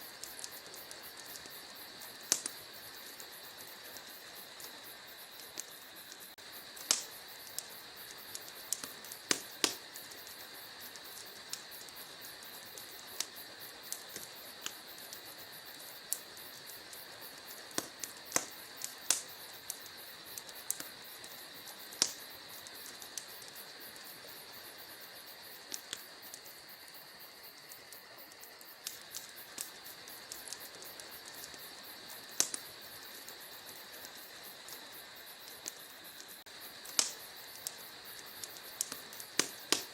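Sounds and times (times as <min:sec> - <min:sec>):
fire pops and snaps: 0:00.0 - 0:39.9
steady high hiss: 0:00.0 - 0:39.9
wood fire crackling: 0:00.0 - 0:39.9.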